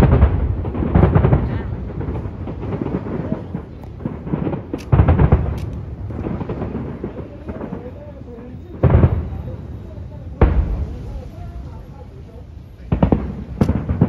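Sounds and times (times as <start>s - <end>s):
firework shells booming: 0.0s - 11.8s, 12.8s - 14.0s
firework crackling: 0.0s - 14.0s.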